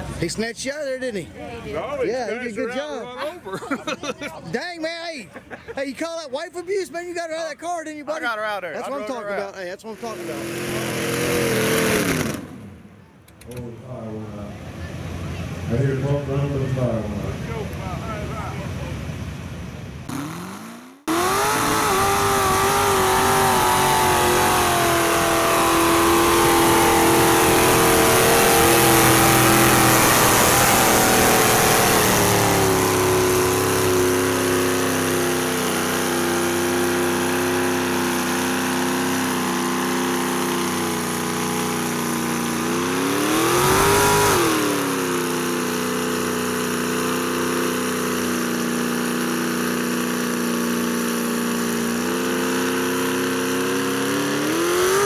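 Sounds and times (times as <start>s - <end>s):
truck engine at high revs: 0.0s - 1.3s, 8.1s - 55.0s.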